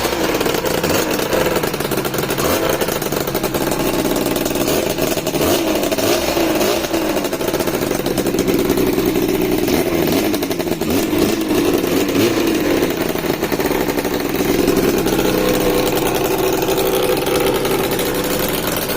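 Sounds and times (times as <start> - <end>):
two-stroke engine running: 0.0 - 18.9.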